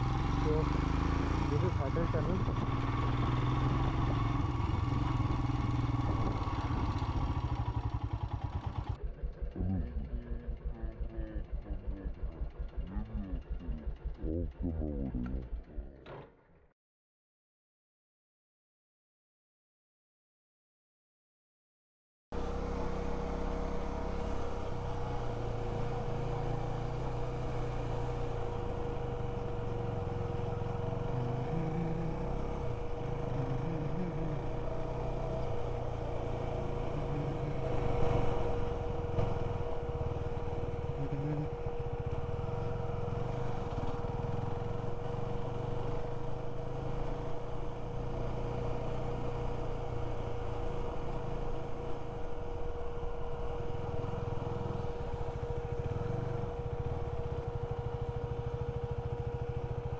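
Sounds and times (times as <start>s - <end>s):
road and wind noise: 0.0s - 10.8s, 22.4s - 59.9s
motorcycle engine running: 0.0s - 16.4s, 22.4s - 59.9s.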